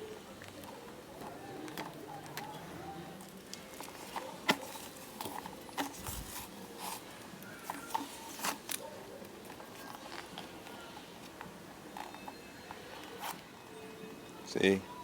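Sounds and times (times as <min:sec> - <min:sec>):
plastic and rubber parts clicking: 0:00.4 - 0:13.4.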